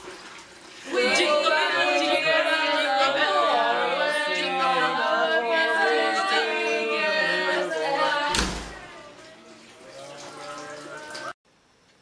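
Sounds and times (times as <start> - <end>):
group singing a cappella: 0.8 - 11.4.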